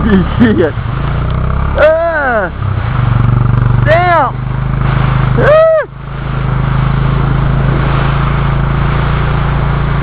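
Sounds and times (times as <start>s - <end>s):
motor droning: 0.0s - 10.0s.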